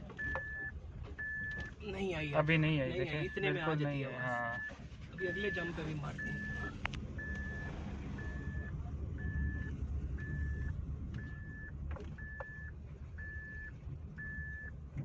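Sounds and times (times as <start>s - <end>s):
car and tyres rumbling: 0.0s - 15.0s
electronic warning beep: 0.2s - 14.7s.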